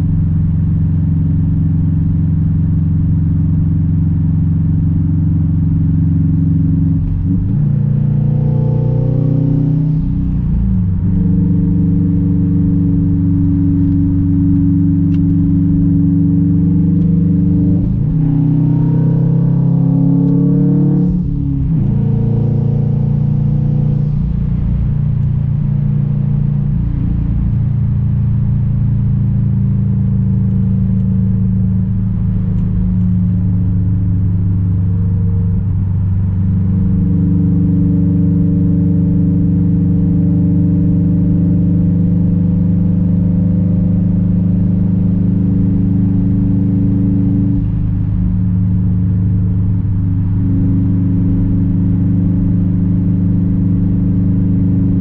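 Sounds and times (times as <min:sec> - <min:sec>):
car engine and exhaust running: 0:00.0 - 0:55.0.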